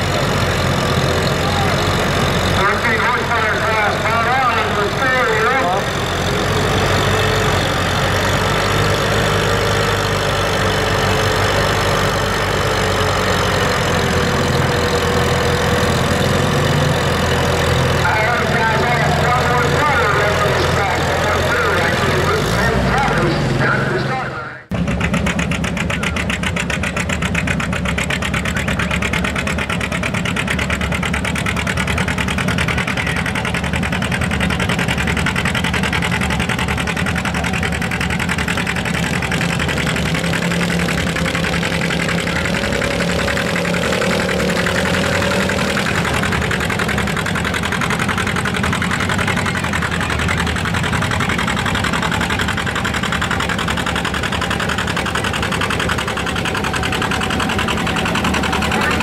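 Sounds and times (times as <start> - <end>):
tractor engine under full load: 0.0 - 59.0.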